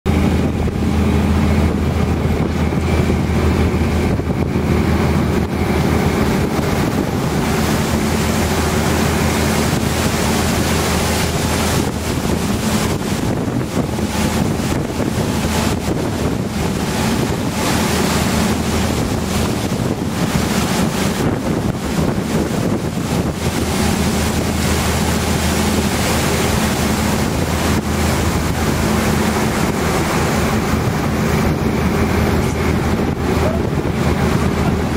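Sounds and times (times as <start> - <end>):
boat engine droning: 0.1 - 34.9
water washing past hull: 0.1 - 34.9
wind on microphone: 0.1 - 34.9.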